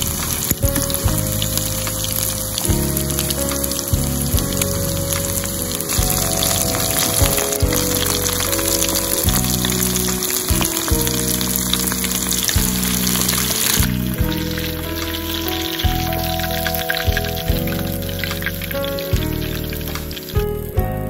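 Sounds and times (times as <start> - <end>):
fish deep-frying sizzle: 0.0 - 20.8
background music: 0.0 - 21.0.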